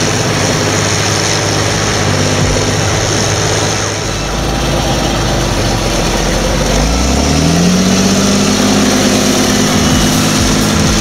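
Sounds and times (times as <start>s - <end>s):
diesel tractor engines running: 0.0s - 11.0s.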